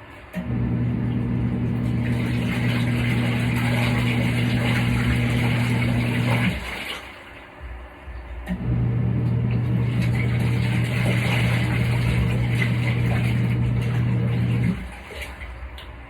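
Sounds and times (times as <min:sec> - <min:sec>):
washing machine motor humming: 0:00.0 - 0:16.0
water sloshing: 0:00.8 - 0:16.0.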